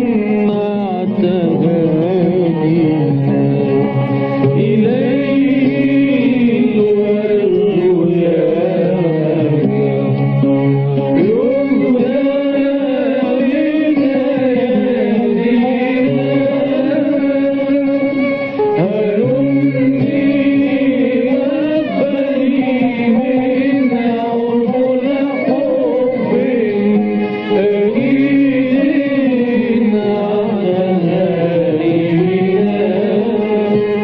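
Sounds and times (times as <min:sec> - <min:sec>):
devotional hymn music: 0:00.0 - 0:34.0.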